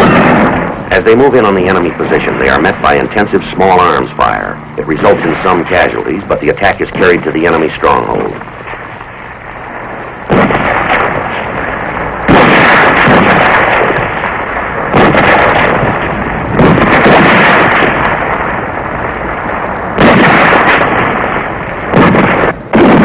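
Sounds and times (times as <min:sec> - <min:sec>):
loud blasts of gunfire and explosions: 0:00.0 - 0:23.0.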